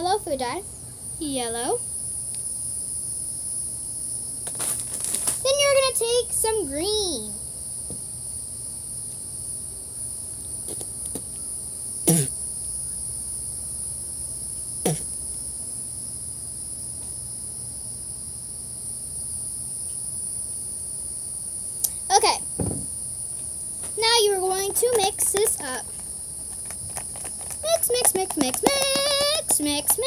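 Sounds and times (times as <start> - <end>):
high insect chirring: 0.0 - 30.0.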